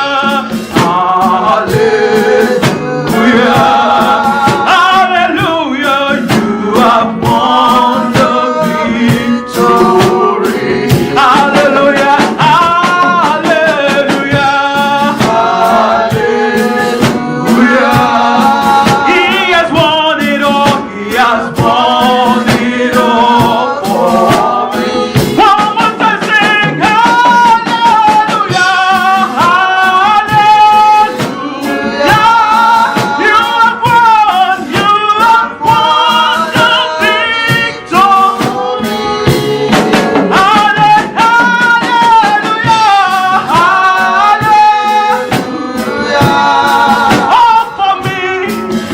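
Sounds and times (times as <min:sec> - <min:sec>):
gospel singing with instruments: 0:00.0 - 0:48.9.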